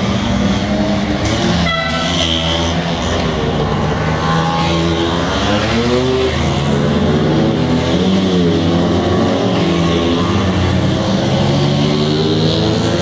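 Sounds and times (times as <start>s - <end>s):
scooter engines revving past: 0.0s - 13.0s.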